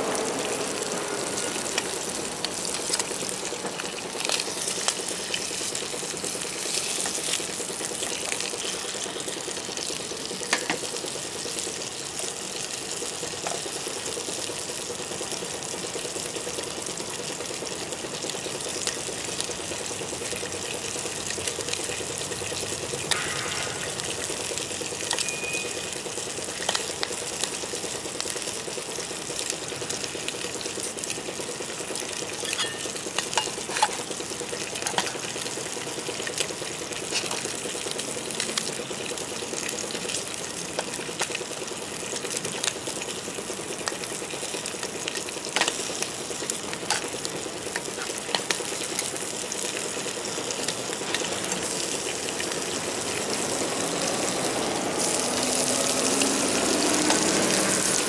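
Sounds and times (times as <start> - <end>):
food sizzling in a frying pan: 0.0 - 58.0.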